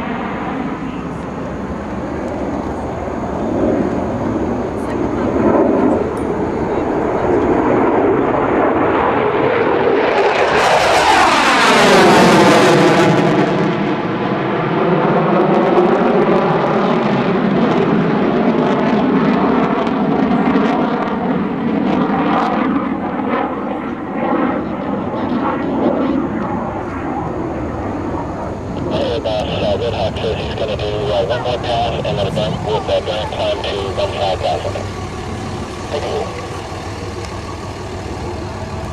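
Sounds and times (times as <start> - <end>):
jet engine roar: 0.0 - 38.9.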